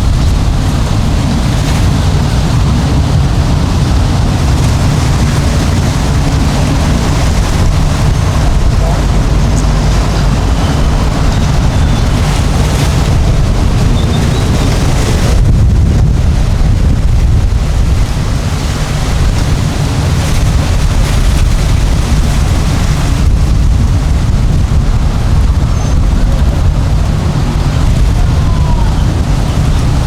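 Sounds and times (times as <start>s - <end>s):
boat engines running: 0.0s - 30.0s
wind rumbling on microphone: 0.0s - 30.0s.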